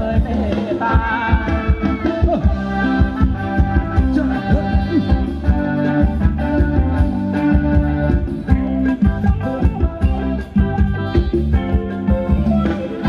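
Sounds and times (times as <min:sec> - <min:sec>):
live band playing dance music: 0:00.0 - 0:13.0
steady drum beat: 0:00.0 - 0:13.0.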